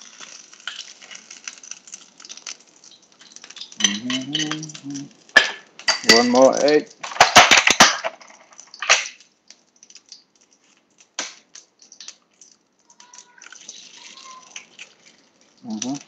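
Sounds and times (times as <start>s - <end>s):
egg shell cracking: 0.0s - 16.0s
egg sizzling in oil: 0.0s - 16.0s.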